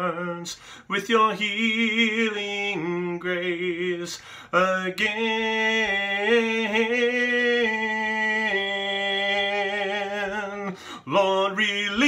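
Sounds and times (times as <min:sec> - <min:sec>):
man singing a cappella: 0:00.0 - 0:12.0.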